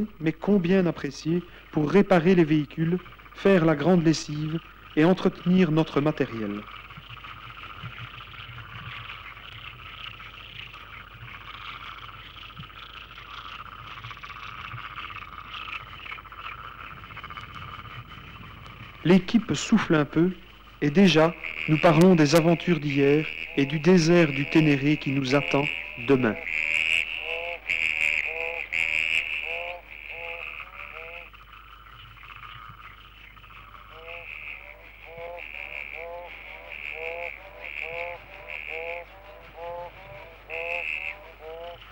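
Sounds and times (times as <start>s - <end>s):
frogs calling in chorus: 0.0s - 41.9s
low steady hum: 0.0s - 41.9s.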